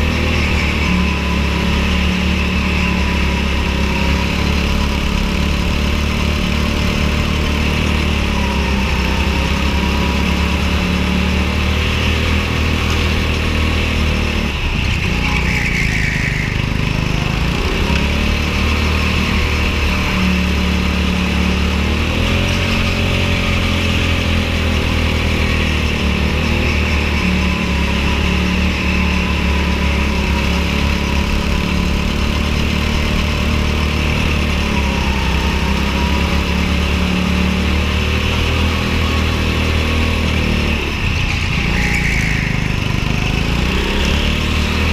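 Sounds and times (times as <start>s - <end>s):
go-kart engine running: 0.0s - 44.9s.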